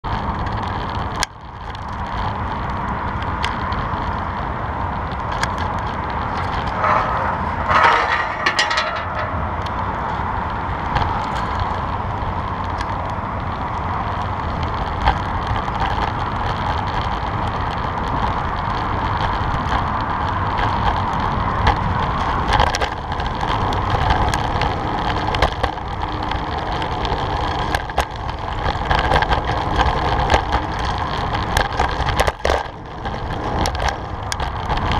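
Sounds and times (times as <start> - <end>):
bicycle tyres rumbling on pavement: 0.0 - 34.9
bicycle clicks and rattles: 0.1 - 34.9.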